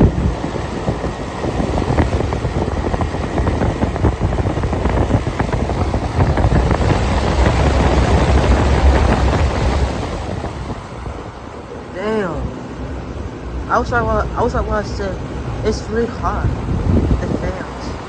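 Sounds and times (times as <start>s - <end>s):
air buffeting microphone: 0.0s - 18.0s
air conditioner running: 0.0s - 18.0s.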